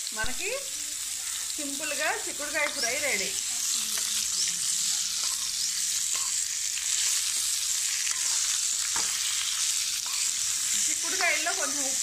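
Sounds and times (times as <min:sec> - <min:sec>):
beans sizzling in hot oil: 0:00.0 - 0:12.0.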